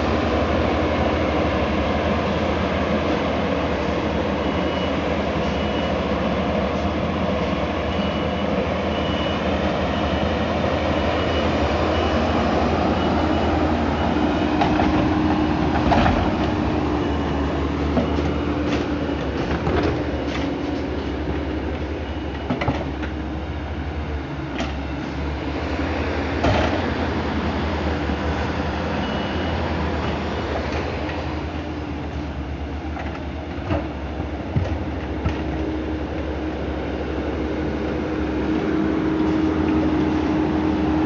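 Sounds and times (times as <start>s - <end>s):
large engine rumbling: 0.0s - 41.0s.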